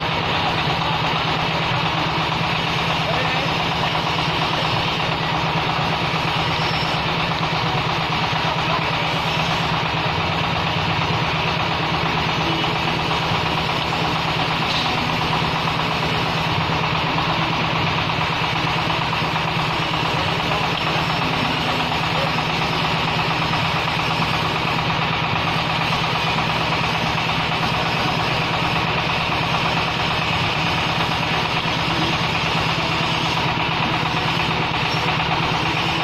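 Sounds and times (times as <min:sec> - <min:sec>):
press machine engine running: 0:00.0 - 0:36.0.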